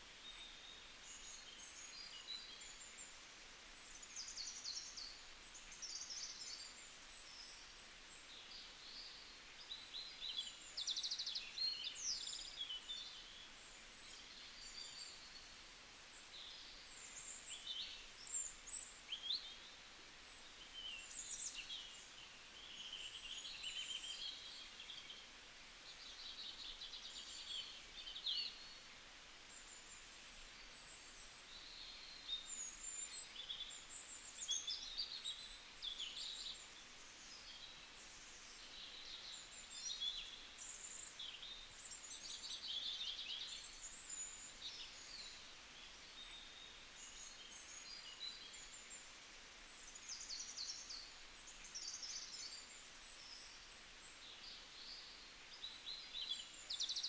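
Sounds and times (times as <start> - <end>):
faint background hiss: 0.0 - 57.0
small birds singing and chirping: 0.0 - 57.0.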